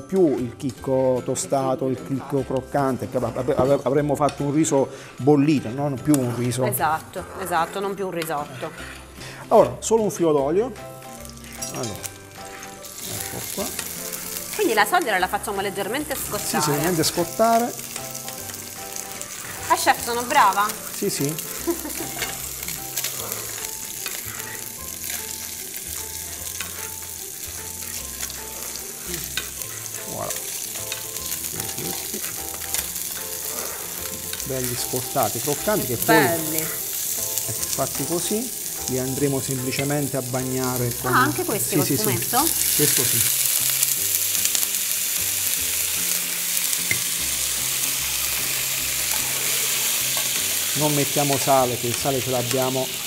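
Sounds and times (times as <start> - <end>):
fish sizzling in frying pan: 1.6 - 53.0.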